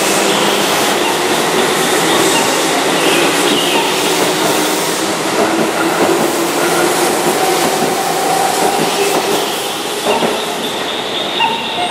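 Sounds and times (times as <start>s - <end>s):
electric train passing: 0.0s - 11.9s.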